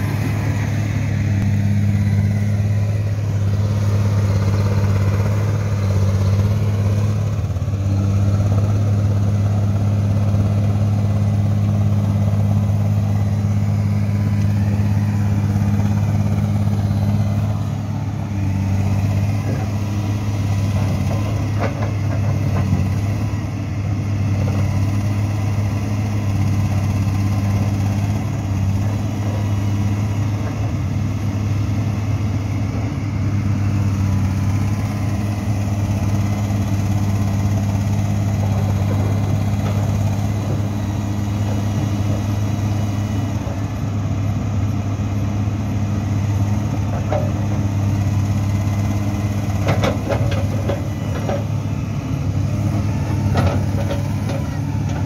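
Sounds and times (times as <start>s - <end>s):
excavator diesel engine droning: 0.0s - 55.0s.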